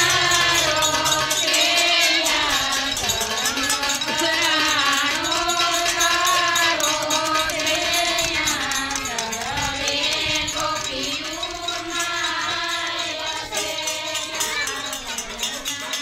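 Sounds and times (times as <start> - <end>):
person singing devotional song: 0.0 - 16.0.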